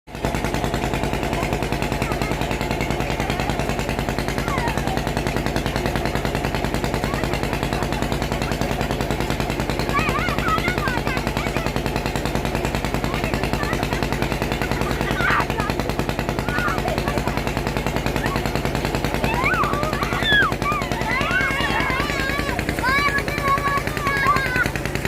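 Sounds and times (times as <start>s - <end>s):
diesel engine thumping: 0.2s - 25.0s.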